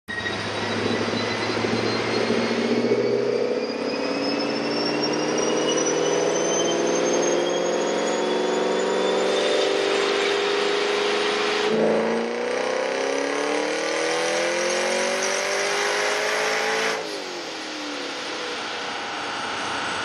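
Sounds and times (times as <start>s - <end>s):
car engine revving: 0.1s - 20.0s
supercharger whine: 0.1s - 20.0s.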